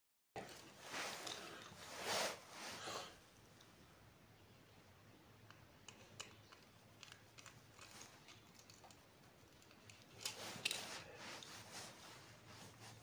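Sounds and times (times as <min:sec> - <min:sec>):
wires rustling: 0:00.4 - 0:03.8, 0:05.5 - 0:13.0.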